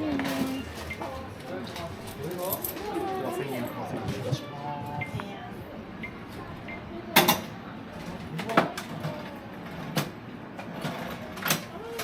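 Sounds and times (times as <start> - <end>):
murmur of background voices: 0.0 - 12.0.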